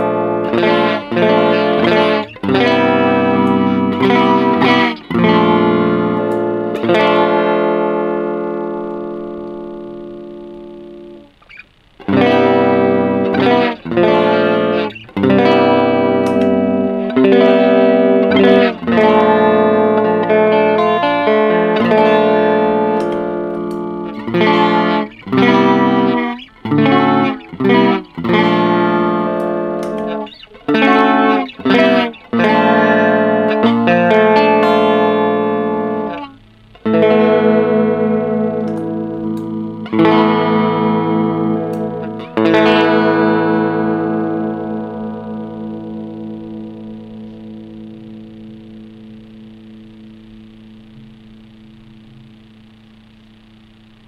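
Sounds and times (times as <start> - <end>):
electric guitar with chorus effect: 0.0 - 54.0.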